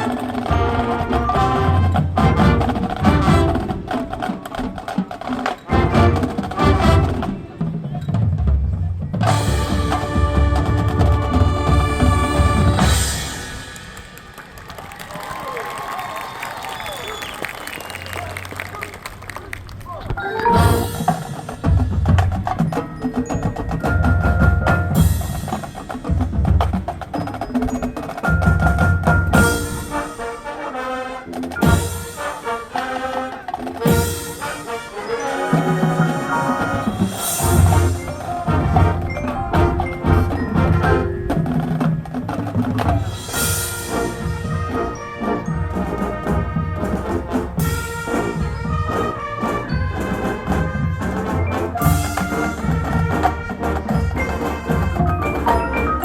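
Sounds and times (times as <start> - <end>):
drumline strokes: 0.0 - 56.0
marching band playing: 0.0 - 56.0.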